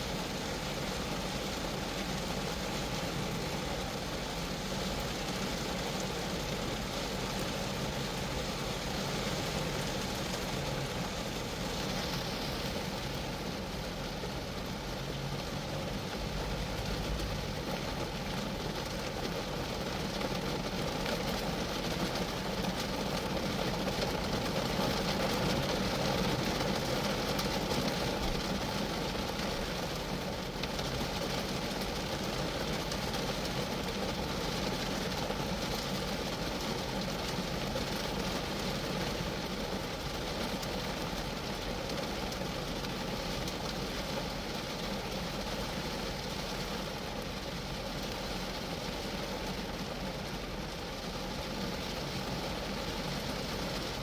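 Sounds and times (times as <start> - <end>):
rain falling on a car: 0.0 - 54.0.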